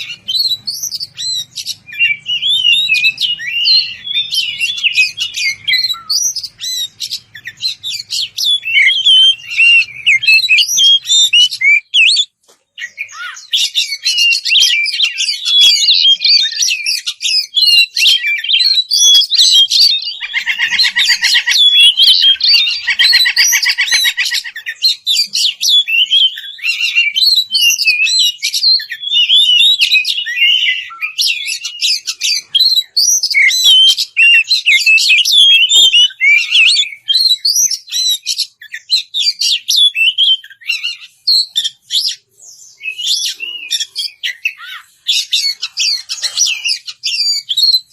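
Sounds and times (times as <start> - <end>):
bird singing whistles and chirps: 0.0 - 47.9.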